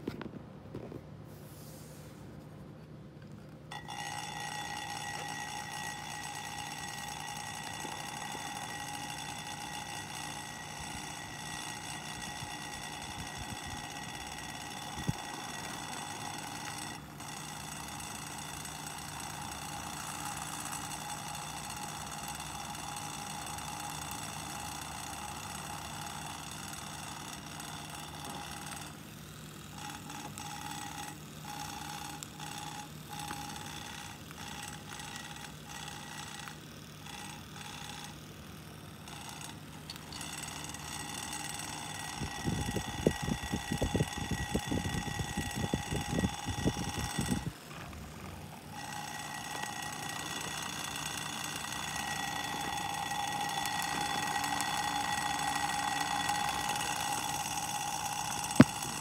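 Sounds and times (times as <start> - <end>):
electric fan motor hum: 0.0 - 59.0.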